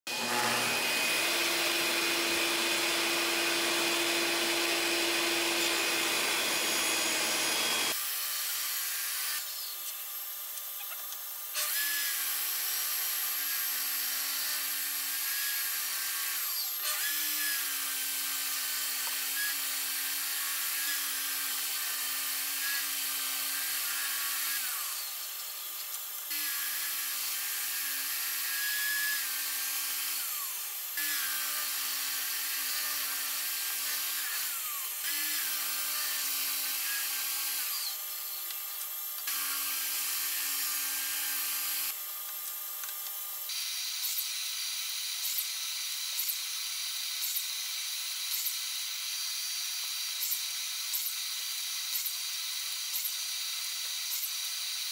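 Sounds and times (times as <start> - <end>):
table saw cutting wood: 0.1 - 54.9.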